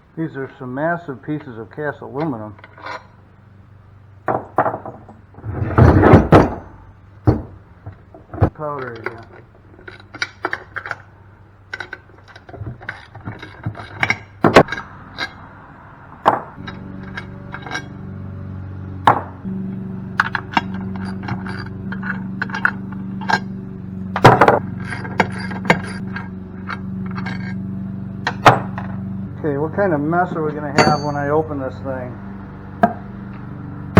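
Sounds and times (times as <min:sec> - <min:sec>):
steady low hum: 0:00.0 - 0:33.9
metal parts knocking and clinking: 0:01.2 - 0:03.3, 0:04.2 - 0:29.2, 0:30.2 - 0:31.8, 0:32.8 - 0:33.5.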